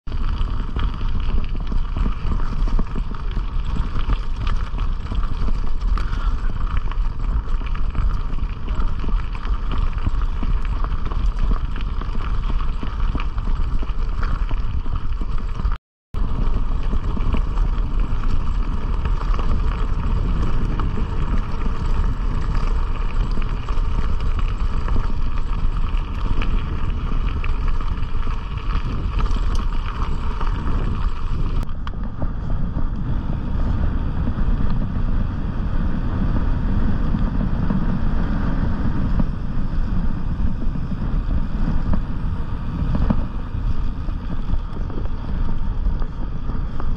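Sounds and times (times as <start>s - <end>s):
wind buffeting microphone: 0.0s - 46.9s
bicycle tyres crunching over gravel: 0.1s - 46.9s.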